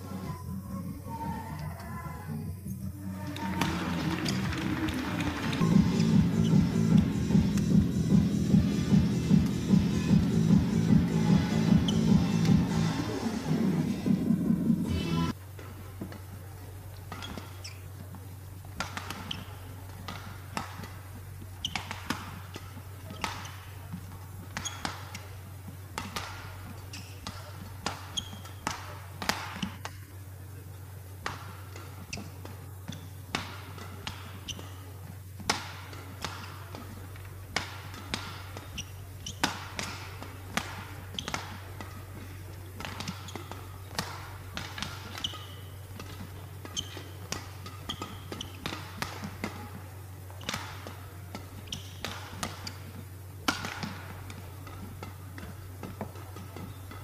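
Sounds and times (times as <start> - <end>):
shoes squeaking on court: 2.6 - 13.6, 14.9 - 57.0
rackets hitting shuttlecock: 3.3 - 13.0, 15.0 - 57.0.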